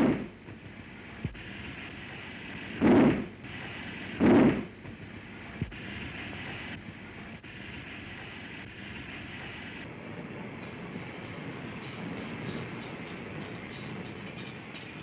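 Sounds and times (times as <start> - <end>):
steam hissing: 0.0 - 15.0
steam locomotive exhaust chuffs: 0.0 - 15.0.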